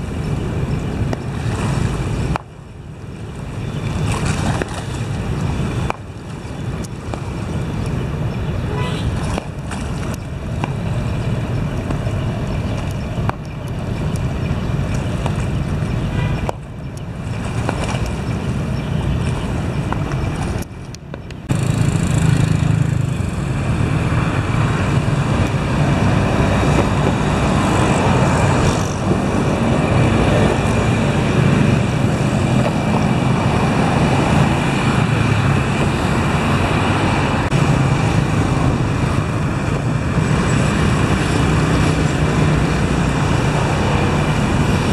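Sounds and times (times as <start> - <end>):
road traffic passing: 0.0 - 44.9
wind on microphone: 0.0 - 44.9.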